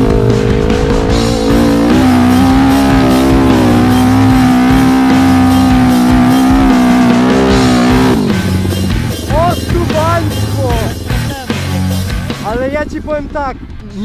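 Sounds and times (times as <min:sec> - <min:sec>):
quad engine at high revs: 0:00.0 - 0:12.6
rock music: 0:00.0 - 0:14.0.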